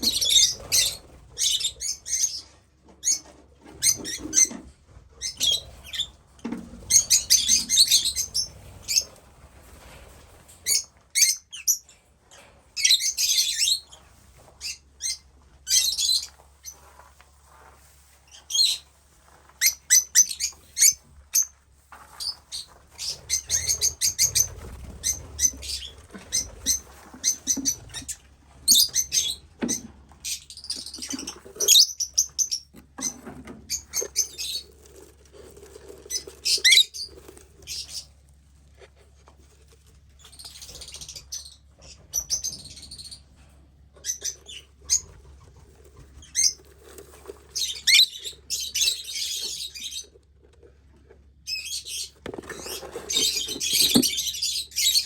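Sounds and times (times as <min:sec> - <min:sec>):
birds chirping and squawking: 0:00.0 - 0:16.8, 0:22.2 - 0:38.2, 0:40.2 - 0:50.2, 0:51.5 - 0:55.0.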